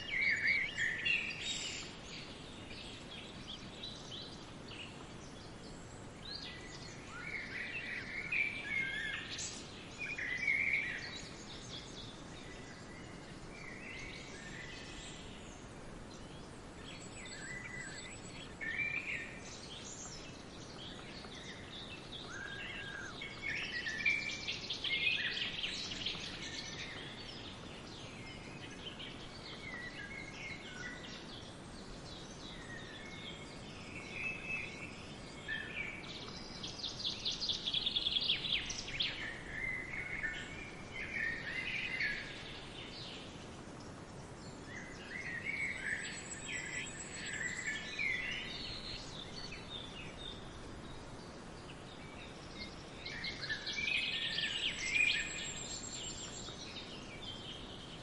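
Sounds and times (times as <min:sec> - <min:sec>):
background hiss: 0:00.0 - 0:58.0
songbirds chirping: 0:00.0 - 0:58.0.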